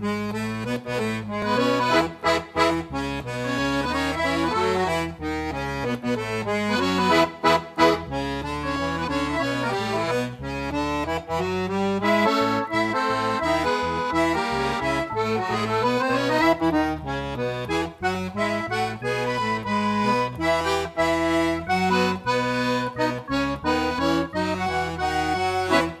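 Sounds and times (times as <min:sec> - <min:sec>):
lively instrumental music: 0:00.0 - 0:26.0.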